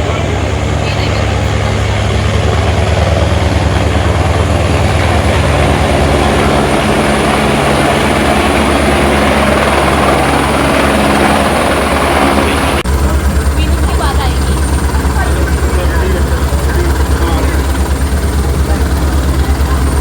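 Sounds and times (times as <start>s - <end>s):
helicopter rotor chopping: 0.0s - 20.0s
low engine drone: 0.0s - 20.0s.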